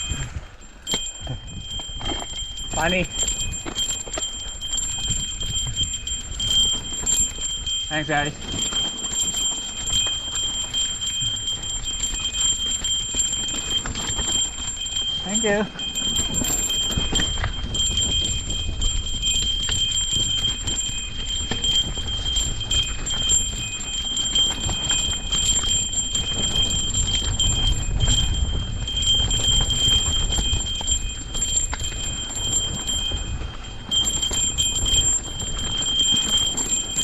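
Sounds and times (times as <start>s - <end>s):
bike chain and frame rattling: 0.0s - 37.0s
wind rumble on microphone: 0.0s - 37.0s.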